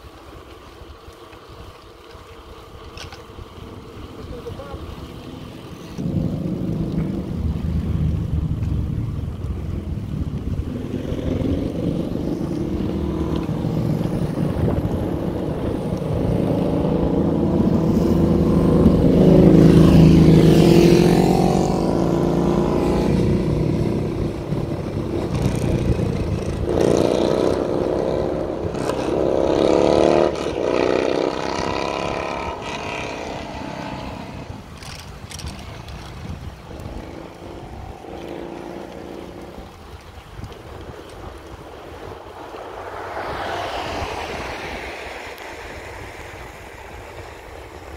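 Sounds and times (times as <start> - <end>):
bicycle road rumble: 0.0 - 47.9
wind: 0.0 - 47.9
car passing close by: 5.3 - 47.9.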